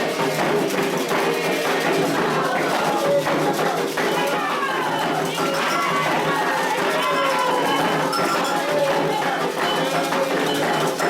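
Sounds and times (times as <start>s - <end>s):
group of voices singing: 0.0s - 11.0s
hand drums beating: 0.0s - 11.0s.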